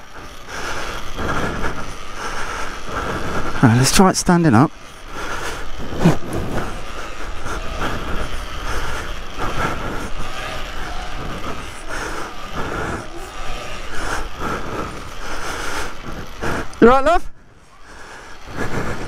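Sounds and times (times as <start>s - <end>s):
electric motorbike whine: 0.0s - 19.0s.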